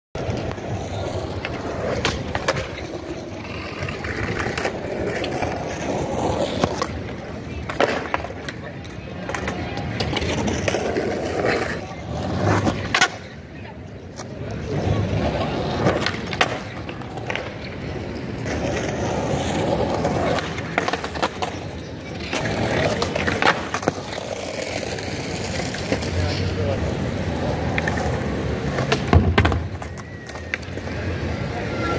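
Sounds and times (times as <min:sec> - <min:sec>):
skateboard wheels rolling on concrete: 0:00.1 - 0:31.9
skateboard clacks: 0:00.2 - 0:31.9.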